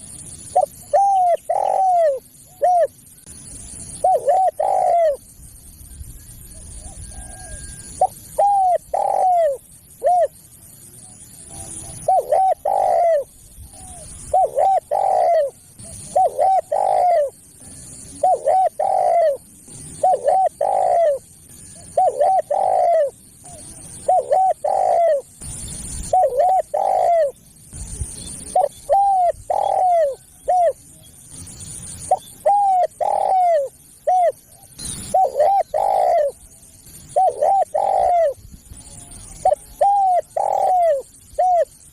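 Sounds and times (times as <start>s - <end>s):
dove cooing: 0.0s - 3.0s, 3.6s - 5.4s, 6.5s - 10.4s, 11.3s - 27.4s, 28.4s - 31.0s, 32.0s - 41.9s.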